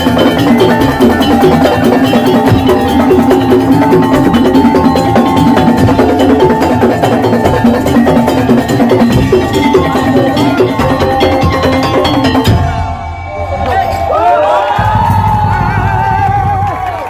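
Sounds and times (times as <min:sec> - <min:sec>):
tuned percussion melody: 0:00.0 - 0:16.9
percussion ensemble drums: 0:00.0 - 0:17.0.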